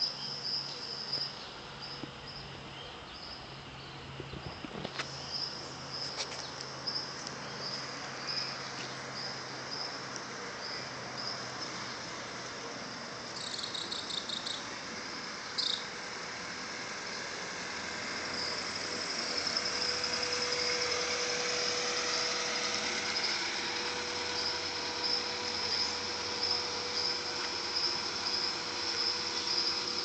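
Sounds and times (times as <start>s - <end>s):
car engine driving slowly: 0.0s - 30.0s
insects chirring: 0.0s - 30.0s.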